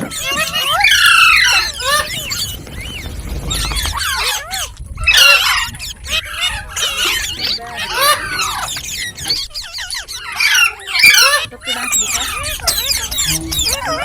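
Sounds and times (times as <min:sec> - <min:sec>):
parrot chirping and squawking: 0:00.0 - 0:14.0.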